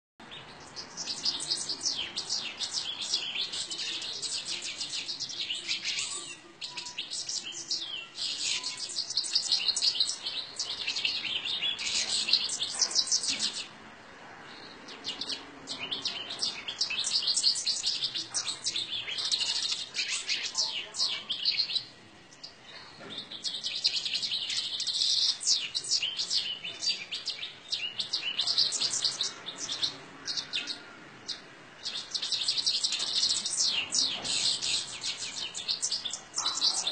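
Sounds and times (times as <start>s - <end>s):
small birds chirping: 0.2s - 36.9s.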